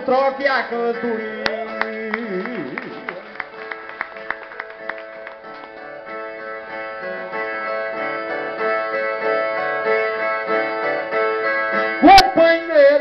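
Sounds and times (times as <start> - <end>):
plucked guitar-like strings melody: 0.0 - 13.0.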